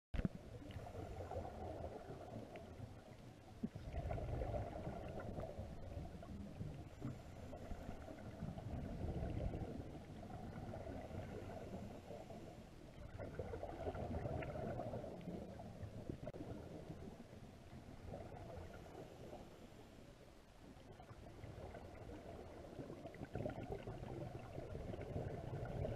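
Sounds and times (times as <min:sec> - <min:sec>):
exhaled bubbles gurgling: 0:00.2 - 0:19.6, 0:20.8 - 0:25.9.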